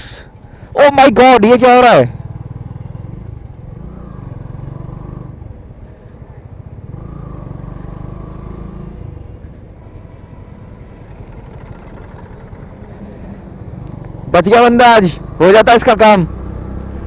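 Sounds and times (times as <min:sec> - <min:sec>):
motorcycle engine running: 0:02.0 - 0:17.0.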